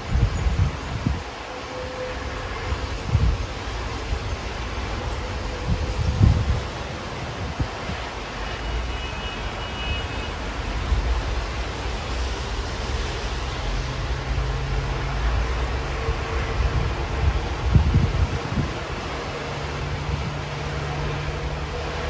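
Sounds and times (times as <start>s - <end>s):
road traffic on wet road: 0.0s - 22.0s.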